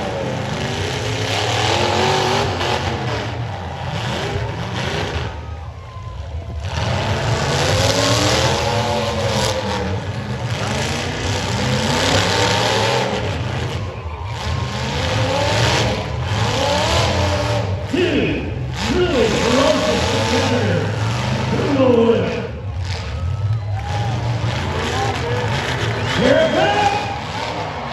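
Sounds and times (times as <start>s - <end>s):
car engines revving hard: 0.0s - 27.9s.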